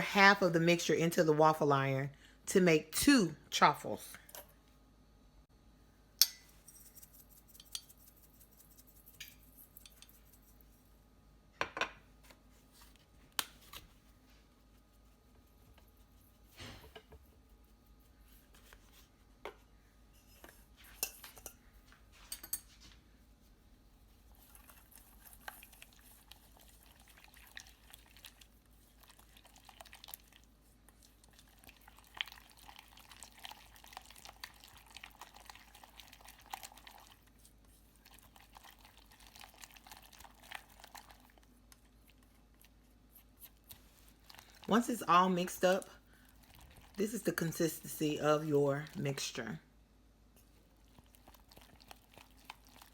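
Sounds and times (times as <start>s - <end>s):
utensil stirring in a bowl: 6.2s - 11.0s, 12.4s - 21.6s, 22.2s - 49.5s, 50.3s - 52.9s.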